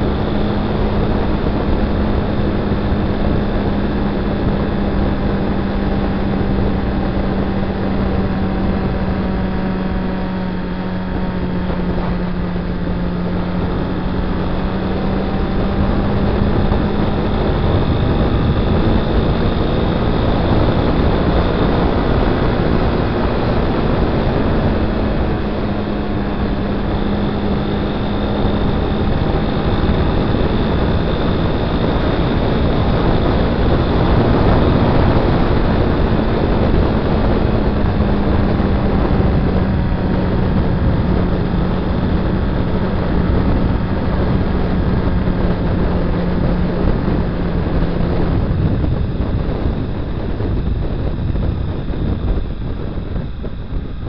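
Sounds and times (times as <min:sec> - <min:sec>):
motorcycle engine cruising: 0:00.0 - 0:54.0
wind rushing on microphone: 0:00.0 - 0:54.0.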